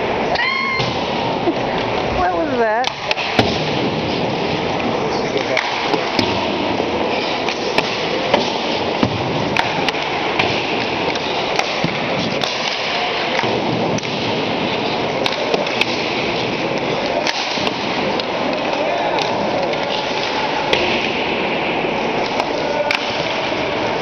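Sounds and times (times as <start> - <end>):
hockey sticks hitting pucks: 2.7 - 24.0
pucks striking boards: 2.8 - 24.0.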